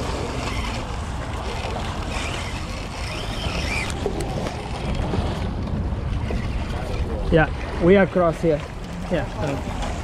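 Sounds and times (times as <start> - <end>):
waves lapping over rocks: 0.0 - 10.0
wind buffeting microphone: 0.0 - 10.0.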